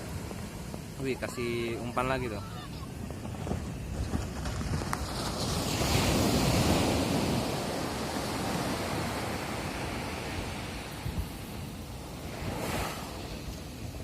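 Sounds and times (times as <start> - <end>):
wave breaking on beach: 0.0 - 14.0.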